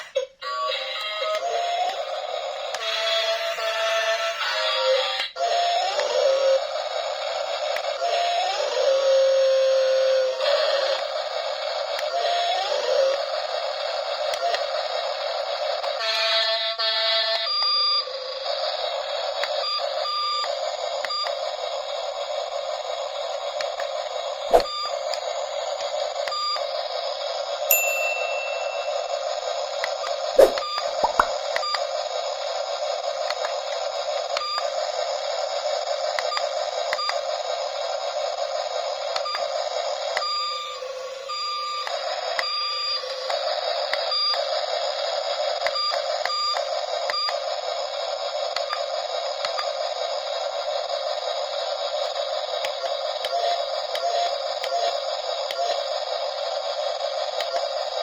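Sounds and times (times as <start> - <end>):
toy electronic engine sound: 0.0 - 58.0.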